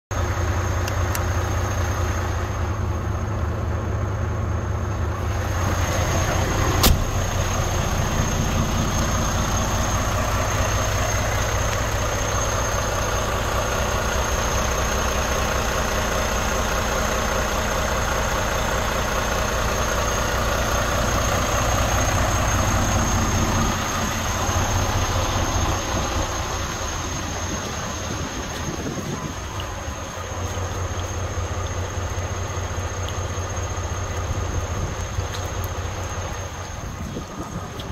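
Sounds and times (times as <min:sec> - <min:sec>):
diesel truck engine idling: 0:00.1 - 0:37.9.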